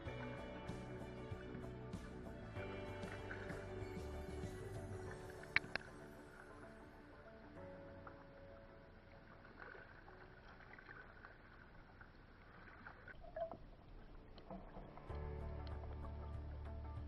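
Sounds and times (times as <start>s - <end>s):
water lapping against kayak: 0.0s - 16.9s.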